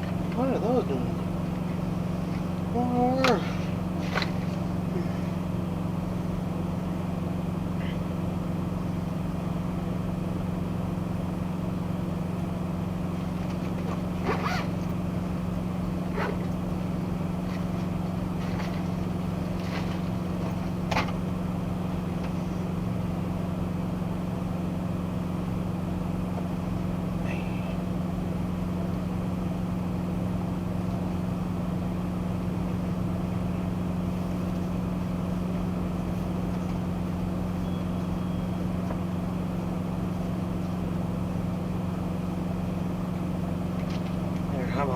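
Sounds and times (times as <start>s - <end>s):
truck engine and road noise: 0.0s - 44.9s.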